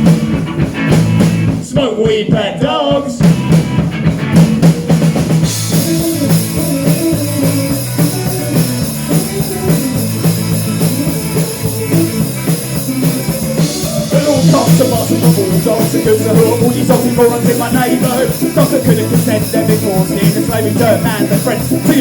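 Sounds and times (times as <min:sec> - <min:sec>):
drum kit: 0:00.0 - 0:22.0
guitar playing: 0:03.3 - 0:22.0.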